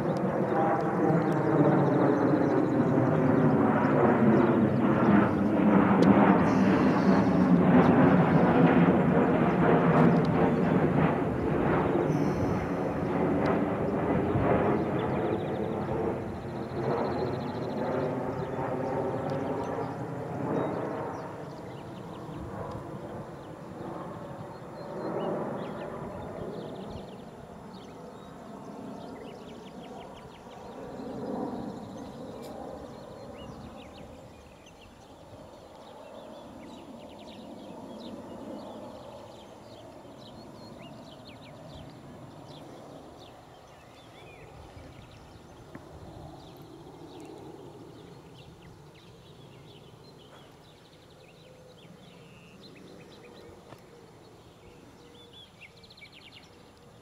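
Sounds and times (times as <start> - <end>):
jet airliner flying overhead: 0.0 - 57.0.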